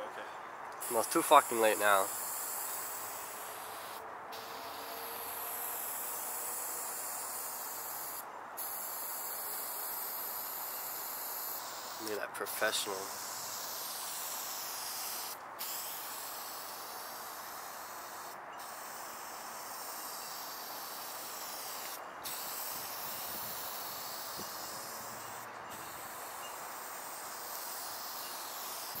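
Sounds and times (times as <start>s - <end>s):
spray paint can hissing: 0.8s - 29.0s.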